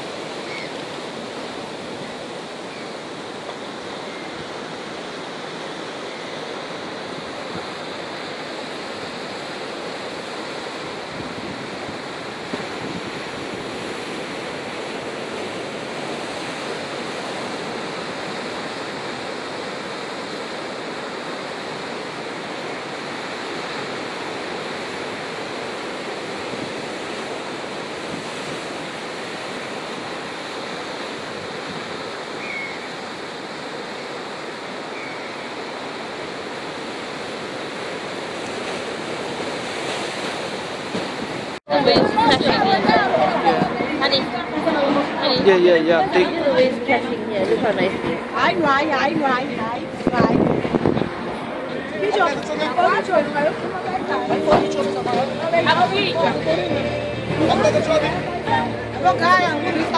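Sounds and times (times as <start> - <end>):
surf breaking over rocks: 0.0 - 59.9.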